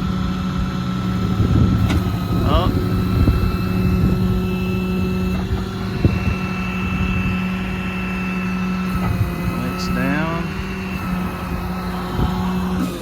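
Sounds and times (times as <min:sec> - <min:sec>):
diesel engine running: 0:00.0 - 0:13.0
hydraulic whine: 0:00.0 - 0:13.0.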